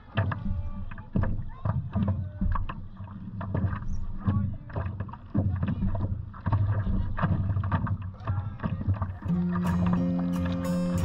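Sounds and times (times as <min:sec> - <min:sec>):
water lapping against paddle board: 0:00.0 - 0:11.0.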